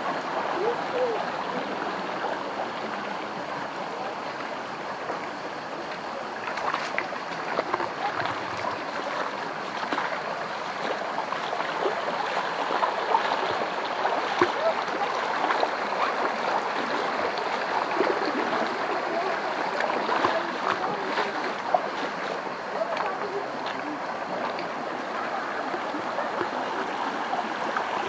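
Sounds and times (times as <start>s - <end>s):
stream running over stones: 0.0s - 28.0s.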